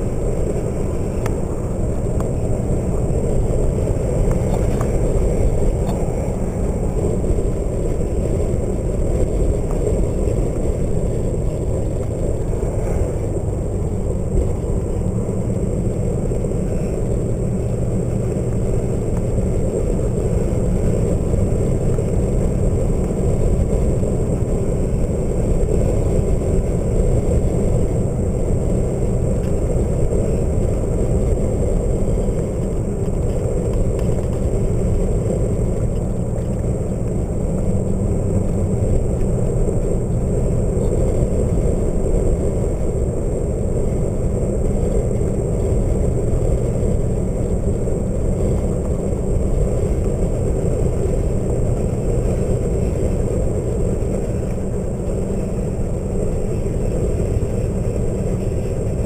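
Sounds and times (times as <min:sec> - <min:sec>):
road and wind noise inside vehicle: 0:00.0 - 0:59.0.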